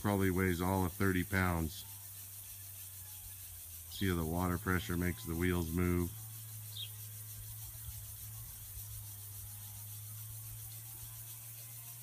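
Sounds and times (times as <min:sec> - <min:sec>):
sprinkler water spraying: 0:00.0 - 0:12.0.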